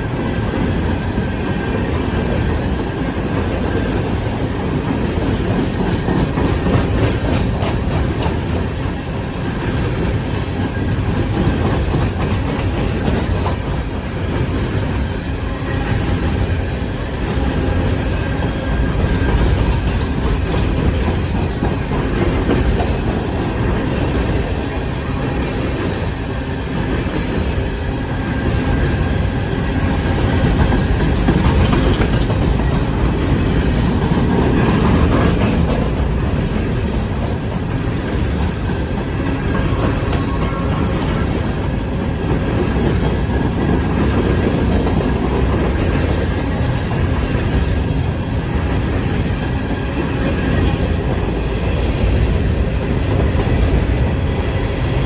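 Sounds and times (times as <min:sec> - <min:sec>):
train rolling past: 0:00.0 - 0:55.0.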